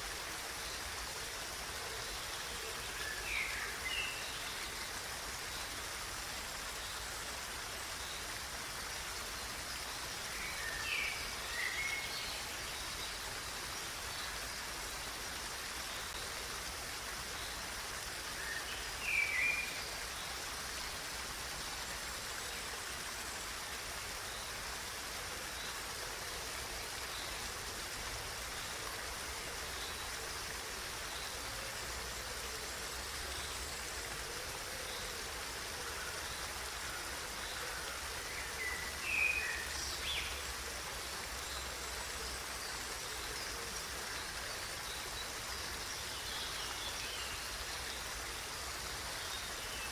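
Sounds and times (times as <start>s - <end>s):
running water: 0.0s - 49.9s.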